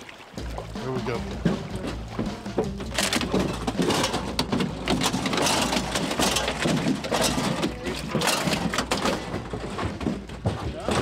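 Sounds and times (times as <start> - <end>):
fish slapping on metal deck: 1.4 - 11.0.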